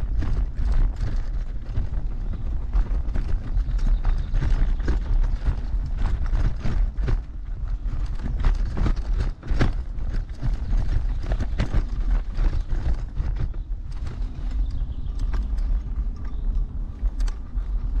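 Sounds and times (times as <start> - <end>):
scooter frame rattling and knocking: 0.0 - 18.0
steady low rumble: 0.0 - 18.0.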